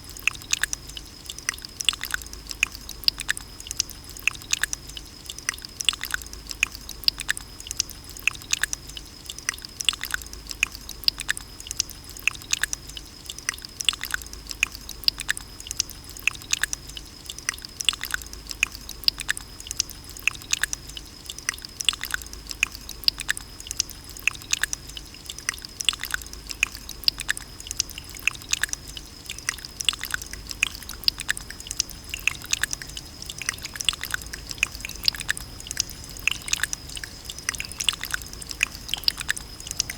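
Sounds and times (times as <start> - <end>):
water droplets dripping: 0.0 - 39.9.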